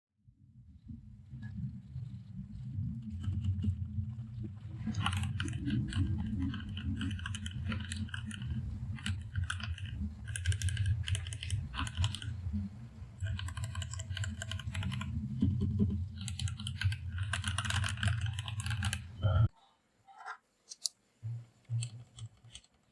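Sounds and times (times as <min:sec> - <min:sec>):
steady low hum: 0:00.7 - 0:19.5.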